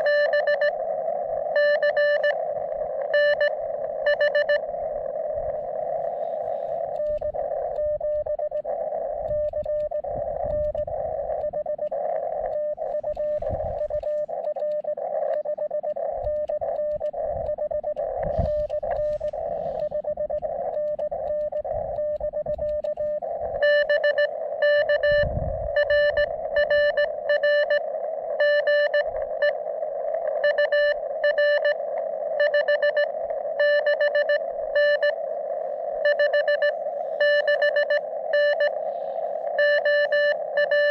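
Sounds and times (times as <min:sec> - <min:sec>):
morse code tones: 0:00.0 - 0:40.9
radio hiss: 0:00.0 - 0:40.9.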